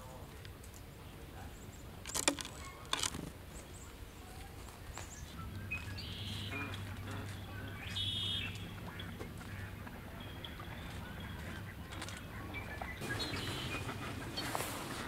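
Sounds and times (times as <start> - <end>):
low steady hum: 0.0 - 15.0
wild birds calling: 0.8 - 15.0.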